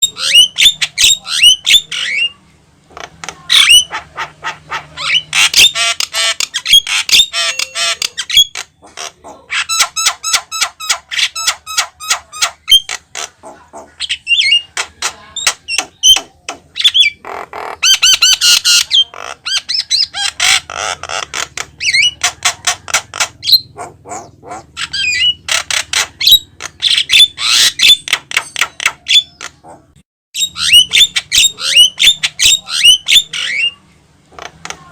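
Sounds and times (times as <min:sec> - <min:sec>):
myna bird singing: 0:00.0 - 0:34.9.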